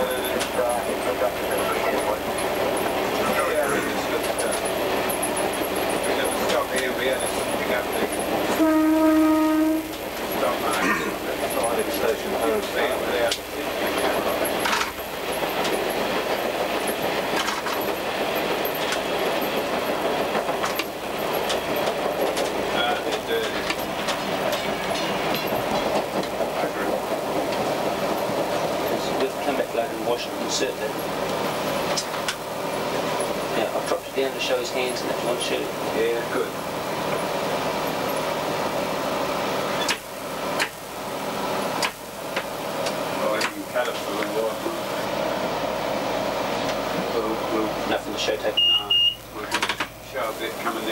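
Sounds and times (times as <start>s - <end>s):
railcar engine and wheels rumbling: 0.0s - 50.9s.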